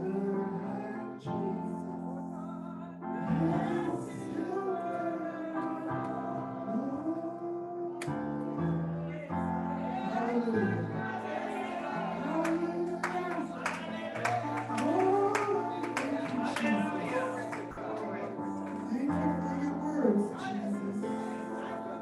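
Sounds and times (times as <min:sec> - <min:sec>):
voices singing: 0:00.0 - 0:22.0.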